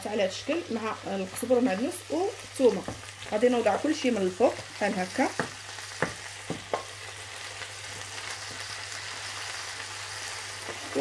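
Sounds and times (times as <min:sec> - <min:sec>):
peppers sizzling in oil: 0:00.0 - 0:11.0.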